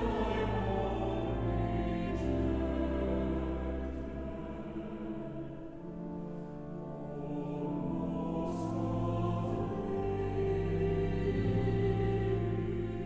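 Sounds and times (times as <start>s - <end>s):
slow choral singing: 0.0s - 13.0s.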